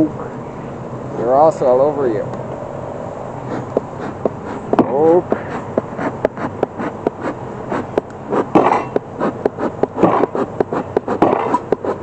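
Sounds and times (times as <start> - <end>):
bee smoker puffing: 2.2 - 12.0.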